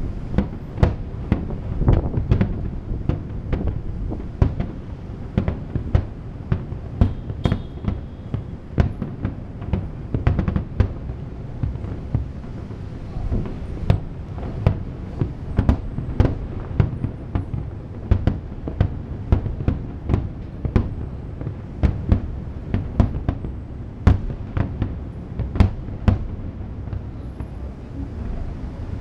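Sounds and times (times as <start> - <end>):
fireworks bangs: 0.0 - 29.0
low rolling rumble: 0.0 - 29.0.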